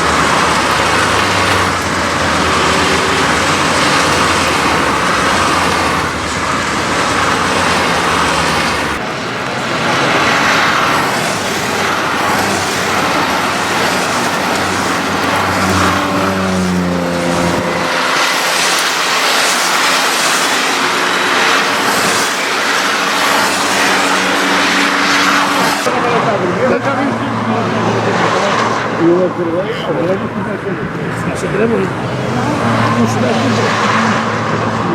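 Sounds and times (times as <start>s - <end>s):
race car engines: 0.0s - 34.9s.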